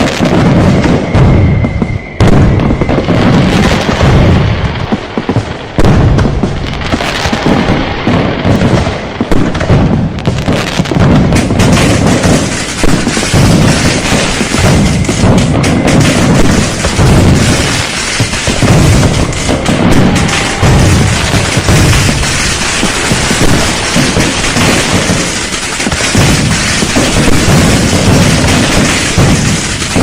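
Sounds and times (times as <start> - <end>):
firecrackers crackling: 0.0 - 30.0
deep booms: 0.2 - 30.0.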